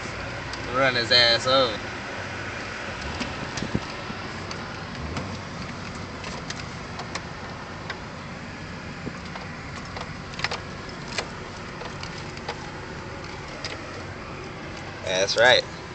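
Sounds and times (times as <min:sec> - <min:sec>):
car engine and road hum: 0:00.0 - 0:15.9.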